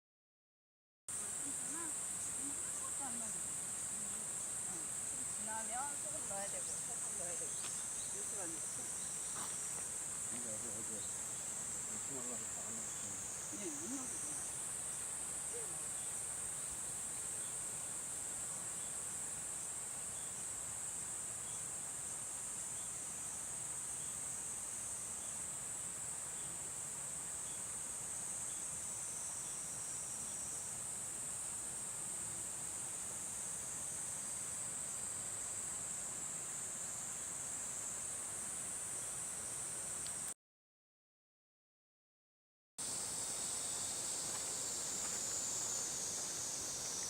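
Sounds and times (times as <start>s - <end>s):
insect chorus: 1.1s - 40.4s, 42.8s - 47.0s.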